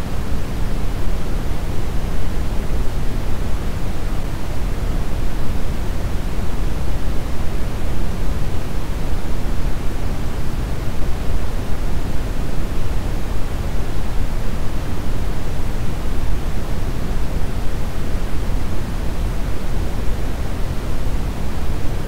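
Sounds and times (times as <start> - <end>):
brown noise hiss: 0.0 - 22.0.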